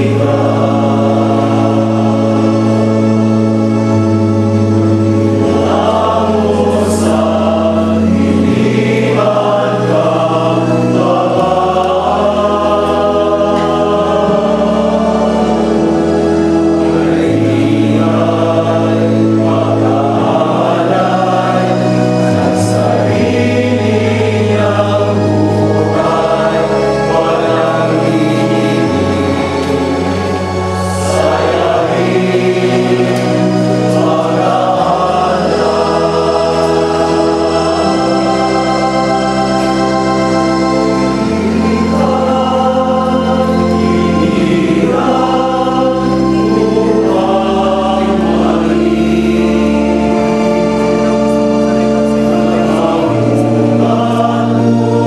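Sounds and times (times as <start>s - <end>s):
choir singing a hymn: 0.0s - 55.0s
steady bass notes: 0.0s - 55.0s.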